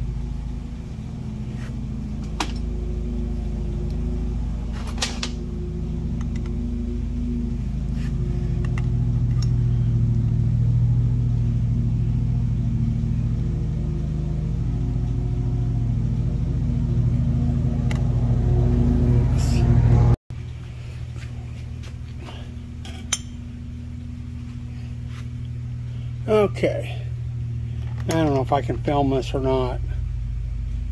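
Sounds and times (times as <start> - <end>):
machinery humming: 0.0 - 30.9.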